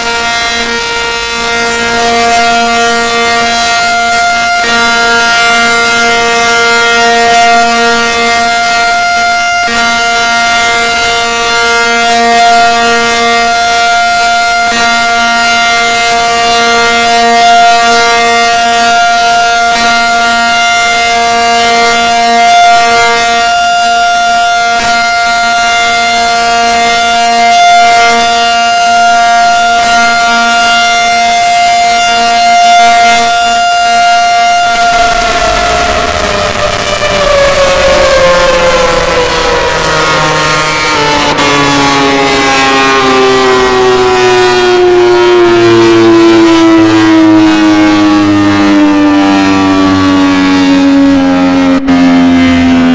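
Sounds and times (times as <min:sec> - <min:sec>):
tornado warning siren: 0:00.0 - 0:52.9.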